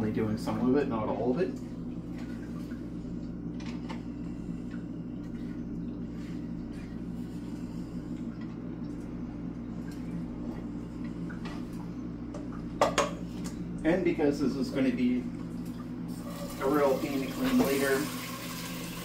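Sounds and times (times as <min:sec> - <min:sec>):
low hum: 0:00.0 - 0:17.5.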